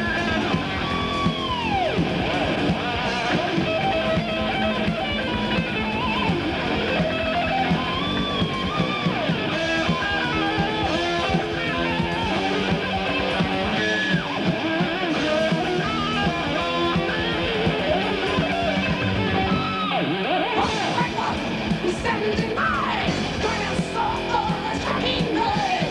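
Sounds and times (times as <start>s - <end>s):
driving bass and drums: 0.0s - 25.9s
electric guitar solo: 0.0s - 25.9s.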